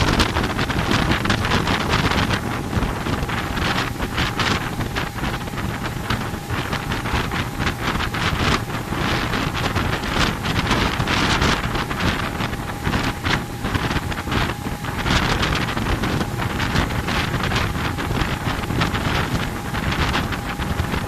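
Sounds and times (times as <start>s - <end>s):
boat wake rushing: 0.0s - 21.0s
faint steady whine: 0.0s - 21.0s
outboard motor running: 0.0s - 21.0s
wind buffeting microphone: 0.0s - 21.0s.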